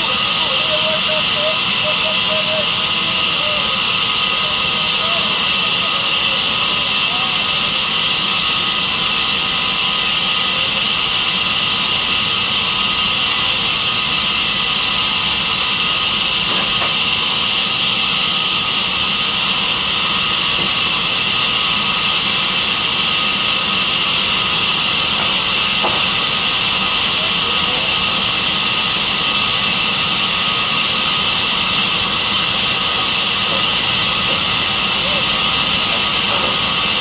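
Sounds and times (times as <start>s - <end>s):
band saw running: 0.0s - 37.0s.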